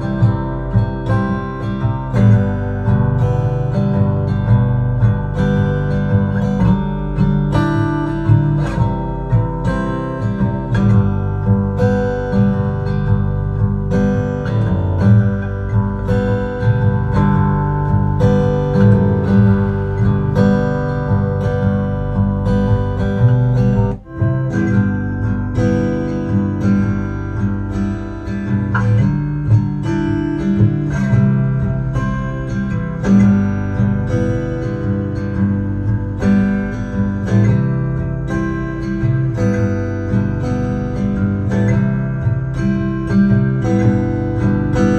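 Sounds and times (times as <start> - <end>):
acoustic guitar music with bass: 0.0 - 44.9.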